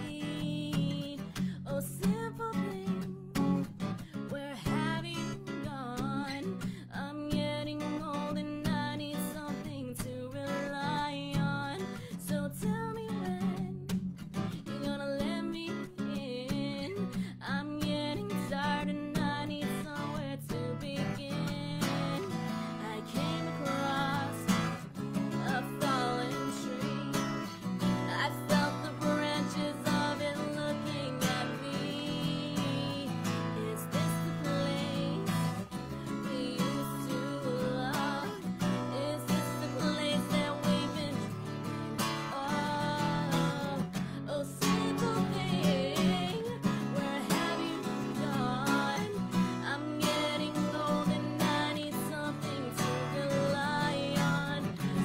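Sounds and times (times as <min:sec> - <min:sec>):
strummed acoustic guitar: 0:00.0 - 0:55.0
woman singing: 0:00.0 - 0:55.0.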